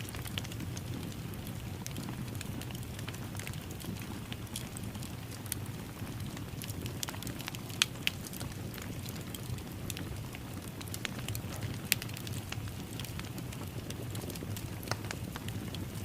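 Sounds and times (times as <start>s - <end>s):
wood fire crackling: 0.0s - 16.0s
sharp pops from fire: 1.8s - 16.0s.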